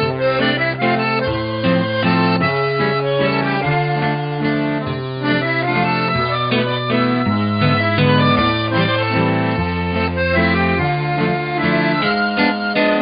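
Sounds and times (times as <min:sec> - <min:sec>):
instrumental background music: 0:00.0 - 0:13.0.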